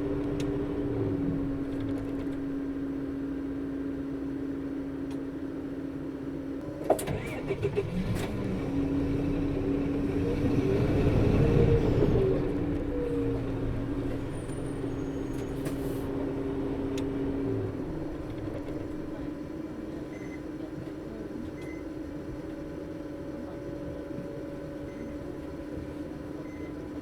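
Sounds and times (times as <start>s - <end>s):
bus cooling fan hum: 0.0s - 27.0s
bus engine noise: 0.0s - 27.0s.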